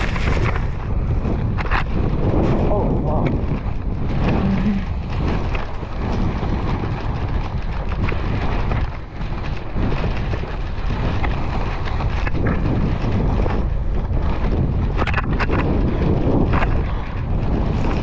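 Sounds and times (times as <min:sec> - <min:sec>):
skis scraping over snow: 0:00.0 - 0:18.0
wind buffeting microphone: 0:00.0 - 0:18.0.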